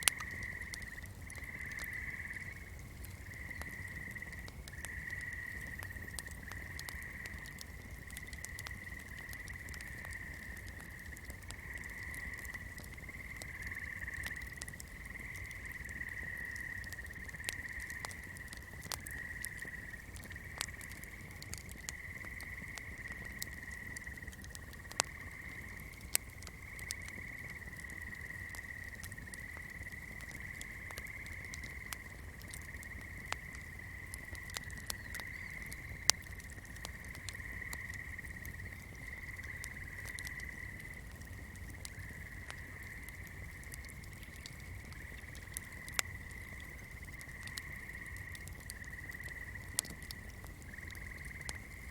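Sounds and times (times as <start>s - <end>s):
fire crackling: 0.0s - 51.9s.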